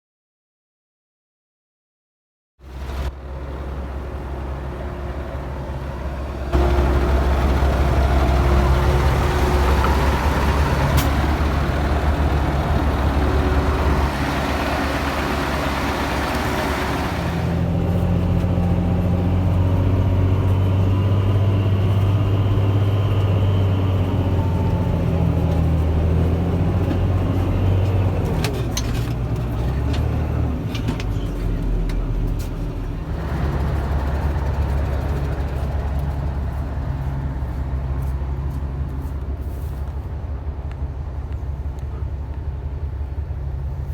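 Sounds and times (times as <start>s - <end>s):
heavy diesel engines running: 2.6s - 43.9s.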